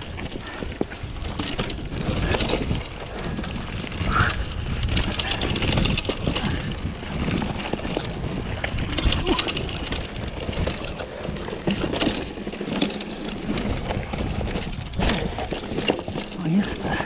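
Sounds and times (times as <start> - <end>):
bike clattering and rattling: 0.0 - 17.0.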